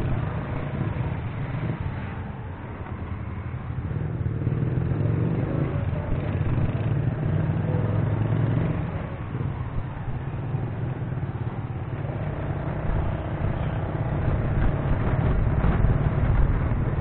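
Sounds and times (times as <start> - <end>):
street traffic noise: 0.0 - 17.0
vehicle engine running: 0.0 - 17.0.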